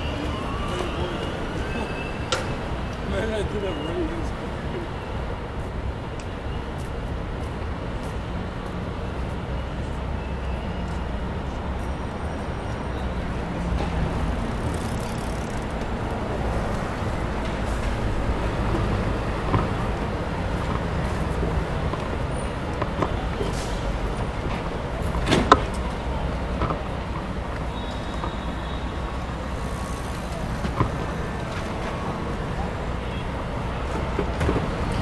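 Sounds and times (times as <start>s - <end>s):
low road rumble: 0.0s - 35.0s
street traffic noise: 0.0s - 35.0s.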